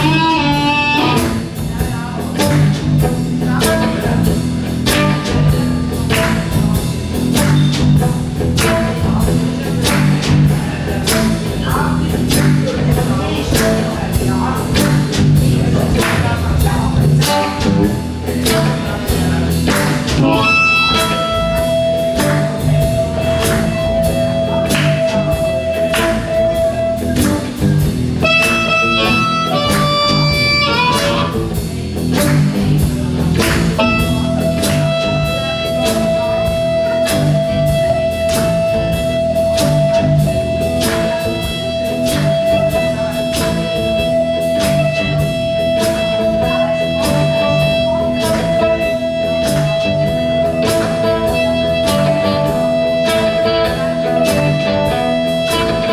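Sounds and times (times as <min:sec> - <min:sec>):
blues band playing live: 0:00.0 - 0:55.9.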